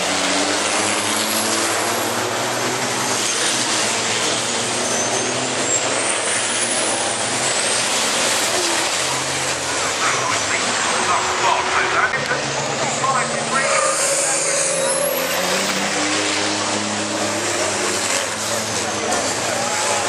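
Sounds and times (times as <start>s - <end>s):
truck diesel engines racing: 0.0s - 20.0s.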